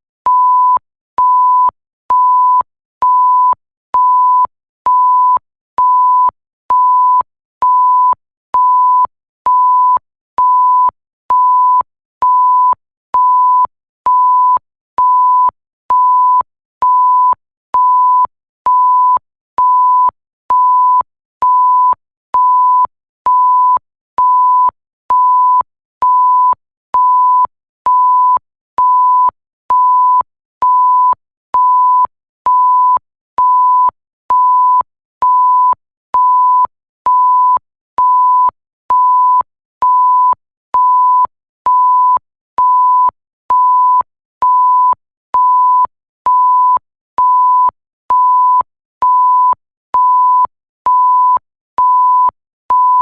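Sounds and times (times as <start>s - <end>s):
censor bleep tone: 0.3s - 53.0s.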